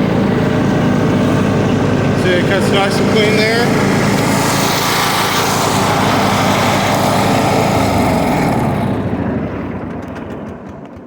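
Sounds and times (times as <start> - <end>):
lawn mower engine running: 0.0 - 10.9
engine shutting off: 0.0 - 11.0.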